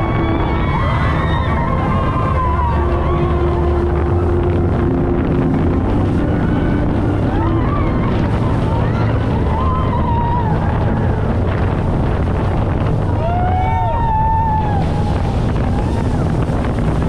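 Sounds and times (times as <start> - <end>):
speedboat engines running: 0.0 - 17.0
water rushing past hull: 0.0 - 17.0
wind buffeting microphone: 0.0 - 17.0.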